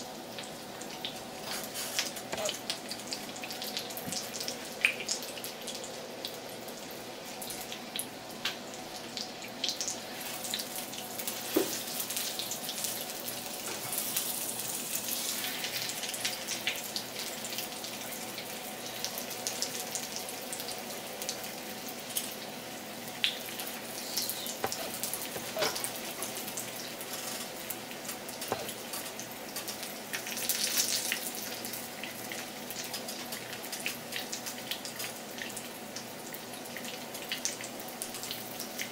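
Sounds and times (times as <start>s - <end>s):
chicken sizzling in frying pan: 0.0s - 38.9s
faint steady hum: 0.0s - 38.9s.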